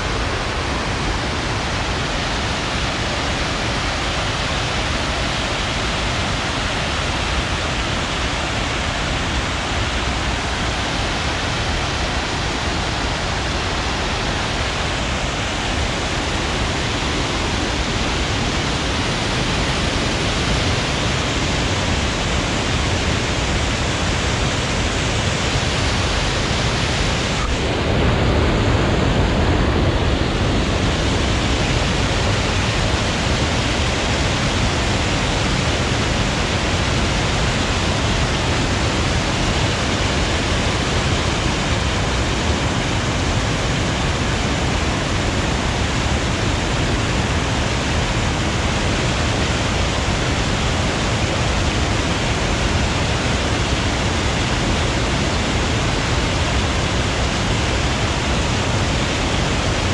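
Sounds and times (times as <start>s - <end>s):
river water pouring over weir: 0.0s - 59.9s.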